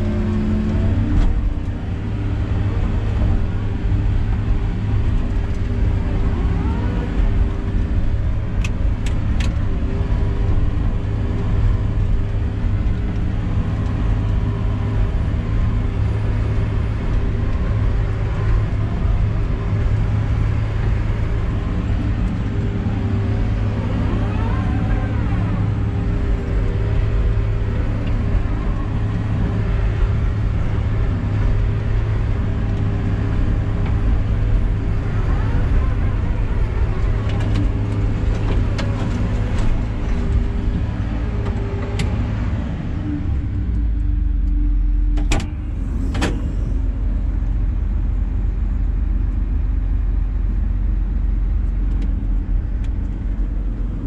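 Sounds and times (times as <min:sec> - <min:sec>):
diesel engine and hydraulics running: 0:00.0 - 0:54.0.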